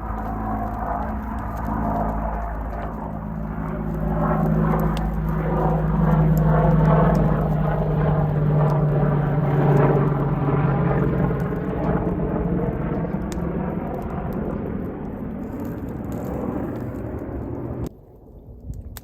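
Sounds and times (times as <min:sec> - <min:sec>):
aircraft engine droning overhead: 0:00.0 - 0:19.0.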